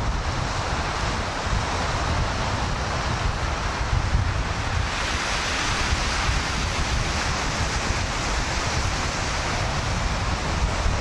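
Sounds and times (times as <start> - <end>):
sea surf: 0.0 - 11.0
wind buffeting microphone: 0.0 - 11.0
wind hiss: 0.0 - 11.0.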